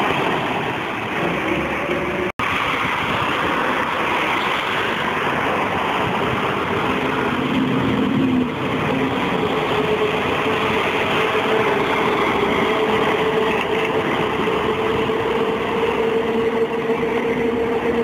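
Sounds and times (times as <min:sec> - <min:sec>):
bus diesel engine whining: 0:00.0 - 0:18.0
road and traffic noise: 0:00.0 - 0:18.0.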